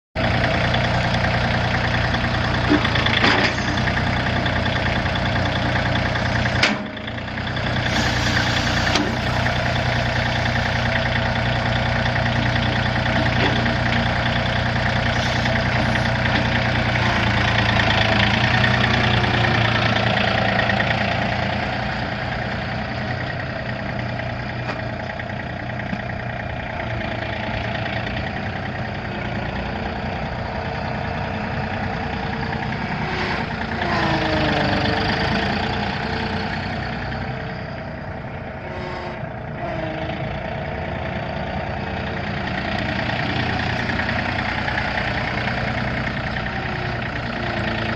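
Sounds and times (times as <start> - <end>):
tractor diesel engine running: 0.2 - 47.9.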